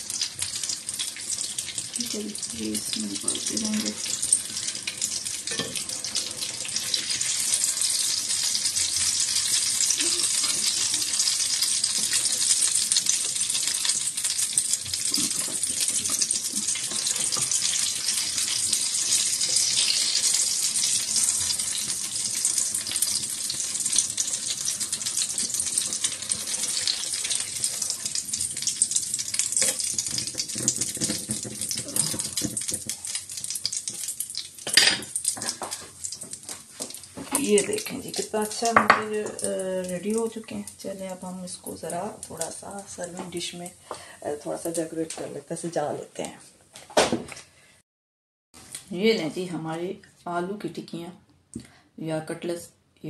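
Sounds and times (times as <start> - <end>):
food sizzling in hot oil: 0.0 - 45.6.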